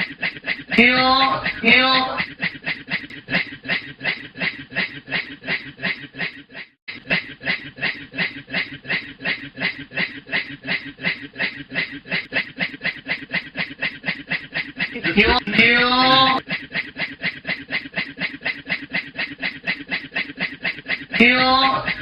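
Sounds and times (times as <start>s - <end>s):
man imitating steam train chugging: 0.0s - 22.0s.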